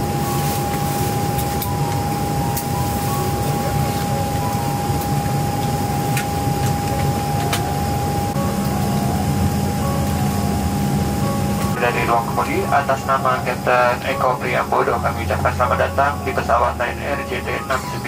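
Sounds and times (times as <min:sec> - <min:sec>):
air-conditioning airflow rumble: 0:00.0 - 0:18.0
constant high whine: 0:00.0 - 0:18.0.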